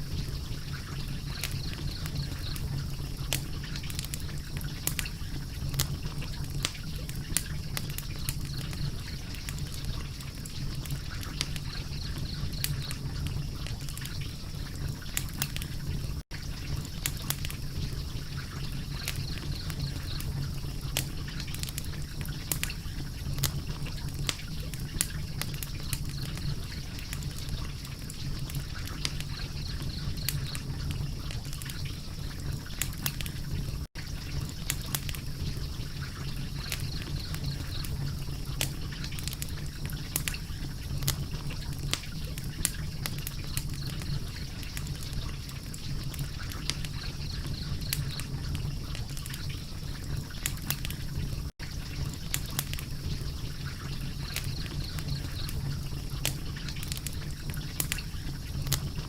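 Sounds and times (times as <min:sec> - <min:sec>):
low rush of flame: 0:00.0 - 0:59.0
wood fire crackling and popping: 0:00.0 - 0:59.0.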